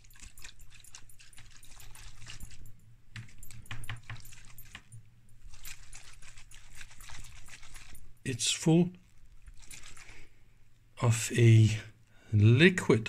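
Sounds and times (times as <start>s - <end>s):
liquid sloshing in a bottle: 0.0s - 10.6s.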